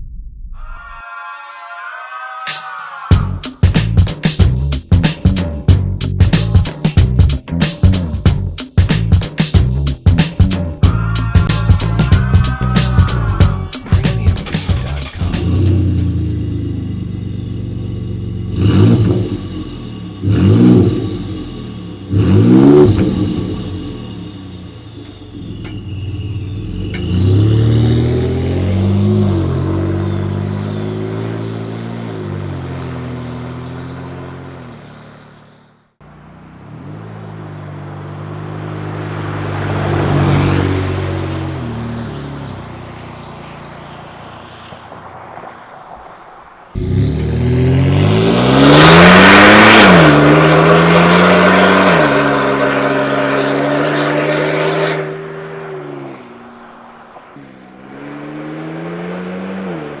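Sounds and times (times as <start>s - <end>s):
truck engine revving: 3.7s - 60.0s.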